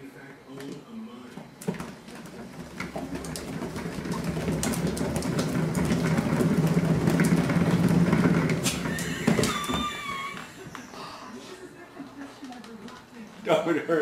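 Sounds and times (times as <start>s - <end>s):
exercise wheel rumbling: 1.3s - 13.3s.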